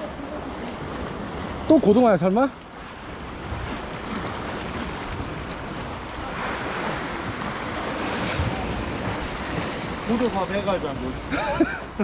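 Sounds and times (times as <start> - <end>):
waves splashing against rocks: 0.0 - 12.0.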